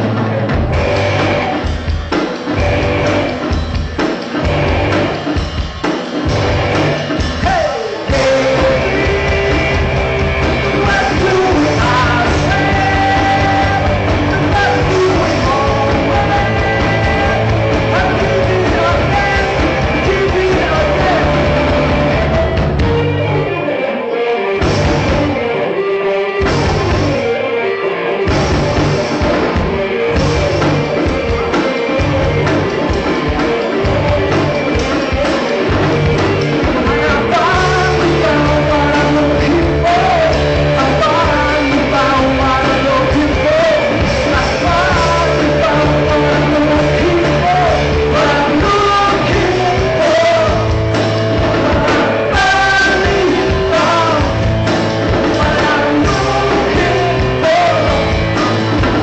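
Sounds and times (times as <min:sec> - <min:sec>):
lead vocal singing: 0:00.0 - 0:59.0
rock band playing live: 0:00.0 - 0:59.0.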